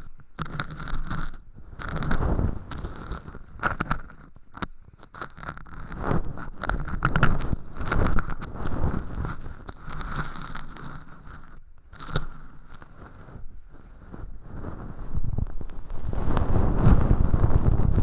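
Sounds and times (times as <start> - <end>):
ear pick scraping earwax: 0.0 - 18.0.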